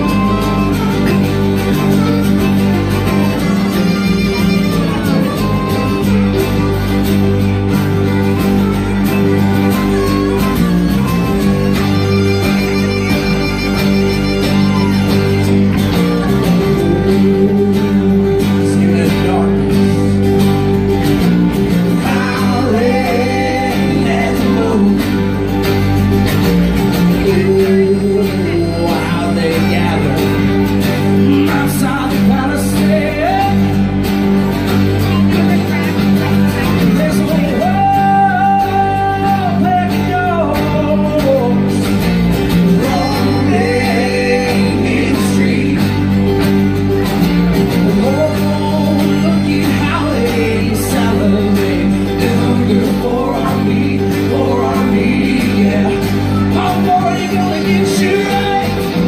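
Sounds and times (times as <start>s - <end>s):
person singing: 0.0s - 59.0s
string instruments: 0.0s - 59.0s
strummed acoustic guitar: 0.0s - 59.0s.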